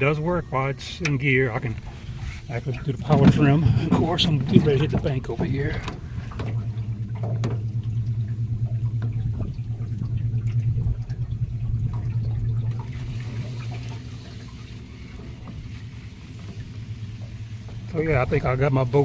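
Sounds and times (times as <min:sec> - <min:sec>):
outboard motor humming: 0:00.0 - 0:19.0
water sloshing against hull: 0:00.0 - 0:19.0.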